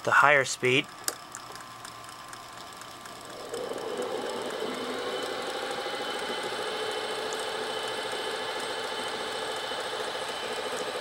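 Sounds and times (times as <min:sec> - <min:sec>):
tape recorder motor whirring: 0:00.6 - 0:11.0.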